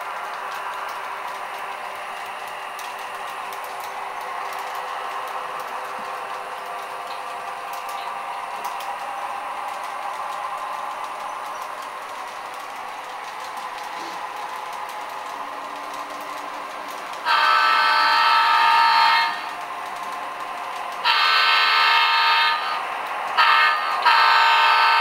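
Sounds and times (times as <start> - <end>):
model train whirring: 0.0 - 25.0.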